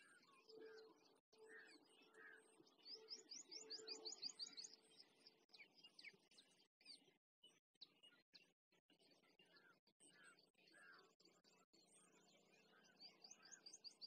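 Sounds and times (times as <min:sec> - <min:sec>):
faint small birds chirping: 0:00.0 - 0:14.0.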